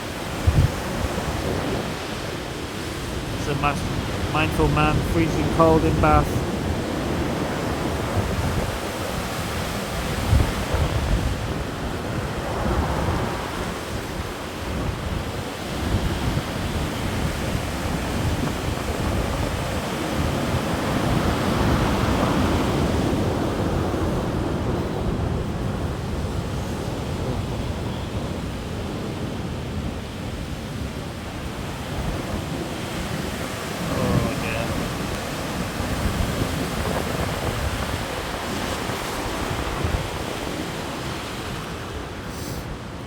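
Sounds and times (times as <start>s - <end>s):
wind buffeting microphone: 0.0s - 4.3s, 6.3s - 43.0s.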